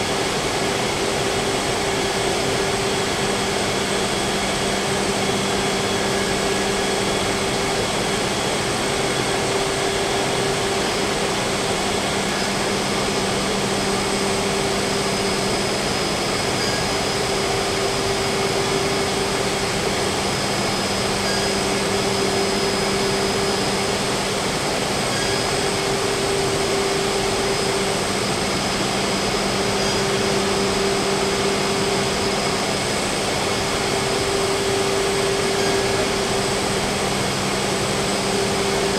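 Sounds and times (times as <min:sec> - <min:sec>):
cnc router spindle whine: 0:00.0 - 0:38.9.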